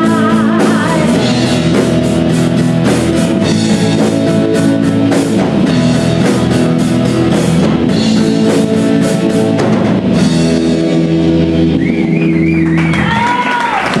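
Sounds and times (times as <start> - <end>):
drum kit: 0.0 - 14.0
electric guitar chords: 0.0 - 14.0.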